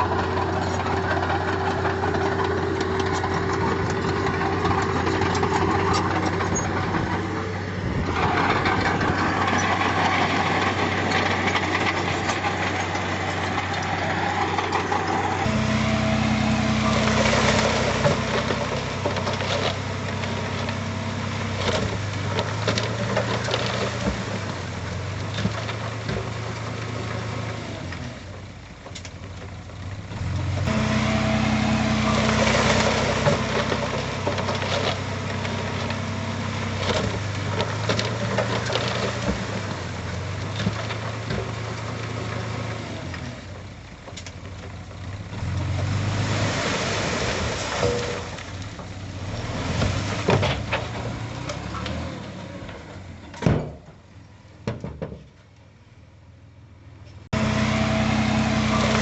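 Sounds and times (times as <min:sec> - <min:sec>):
diesel engine running: 0:00.0 - 0:54.6, 0:55.9 - 0:59.0.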